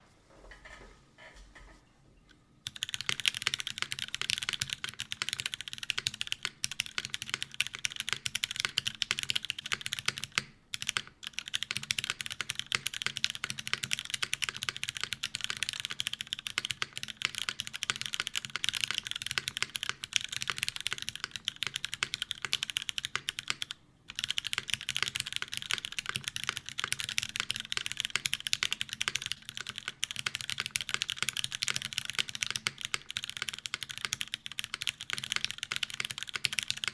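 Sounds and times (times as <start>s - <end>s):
fast mechanical keyboard typing: 2.6s - 36.9s.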